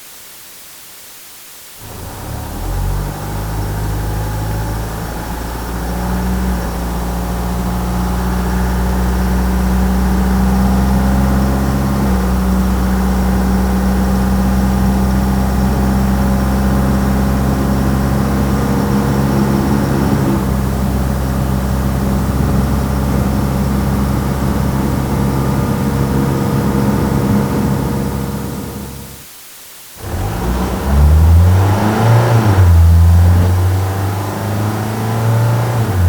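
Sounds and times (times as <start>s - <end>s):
truck engine driving: 1.8s - 29.2s, 30.0s - 36.0s.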